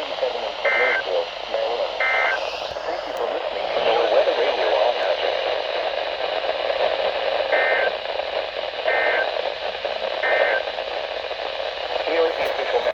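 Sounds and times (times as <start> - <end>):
radio static hiss: 0.0 - 12.9.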